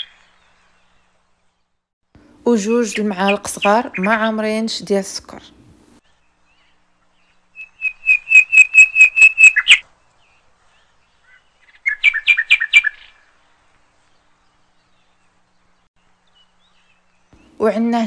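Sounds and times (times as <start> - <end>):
bird chirping: 0.0 - 1.8, 2.6 - 4.8, 6.0 - 17.9.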